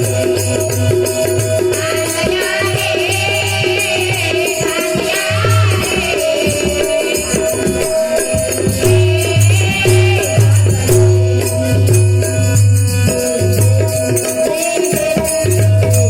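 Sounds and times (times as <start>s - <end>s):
harmonium: 0.0s - 16.0s
jingling hand percussion: 0.0s - 16.0s.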